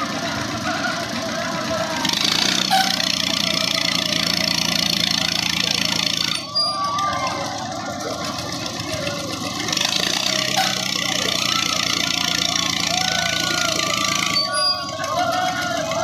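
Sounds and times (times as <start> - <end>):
ride machinery droning: 0.0 - 16.0
riders' voices: 0.0 - 16.0.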